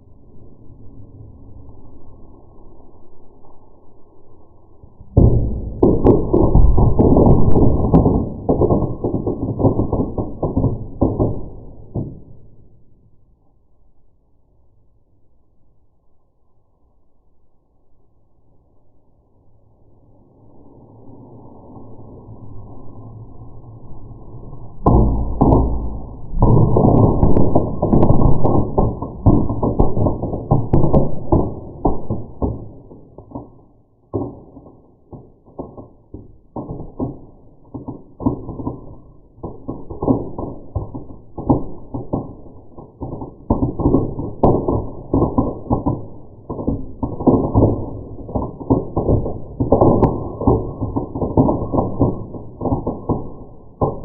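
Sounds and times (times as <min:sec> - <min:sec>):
fire crackling and popping: 0:00.0 - 0:14.0, 0:19.9 - 0:54.0.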